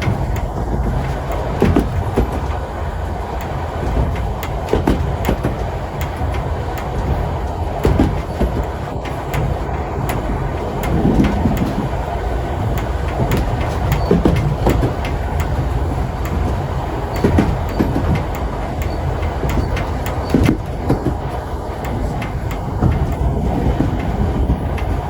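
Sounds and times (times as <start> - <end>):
railway carriage rumbling on track: 0.0 - 25.0
wheels clicking and knocking: 0.0 - 25.0.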